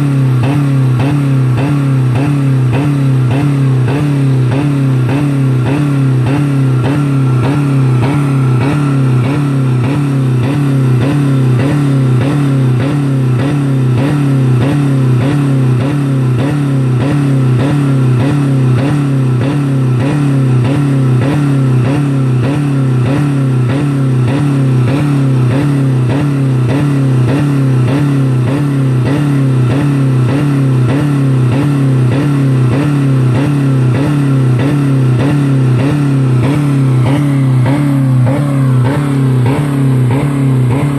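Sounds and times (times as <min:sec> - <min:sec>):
car engine at rev limiter: 0:00.0 - 0:40.9.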